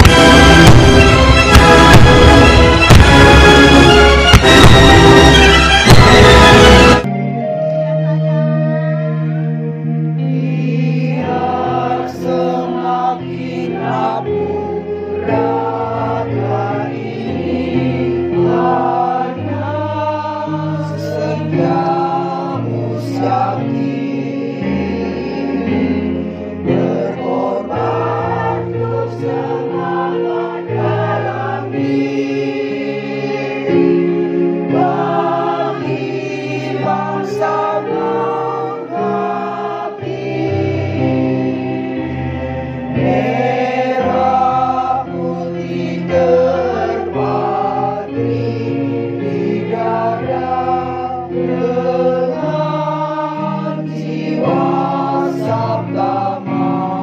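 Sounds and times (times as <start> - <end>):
choir singing in harmony: 0.0 - 57.0
held accompaniment chords: 0.0 - 57.0.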